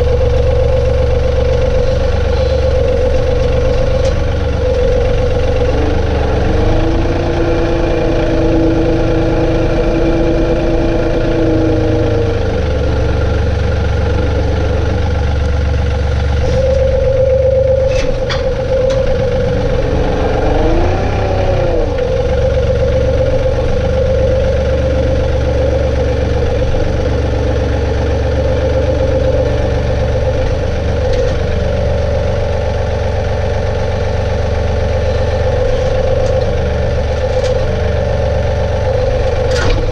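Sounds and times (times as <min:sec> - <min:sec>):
tractor diesel engine running: 0:00.0 - 0:39.9
whining tone: 0:00.0 - 0:39.9.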